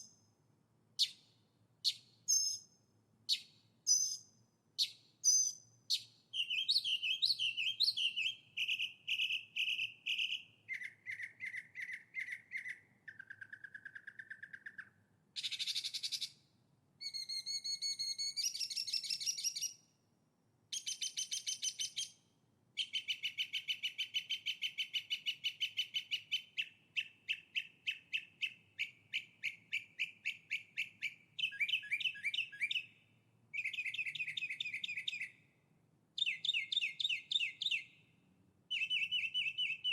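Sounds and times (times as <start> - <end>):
songbirds singing trills: 0.0 - 0.3, 1.0 - 16.4, 17.0 - 19.9, 20.7 - 22.2, 22.8 - 35.6, 36.2 - 39.9.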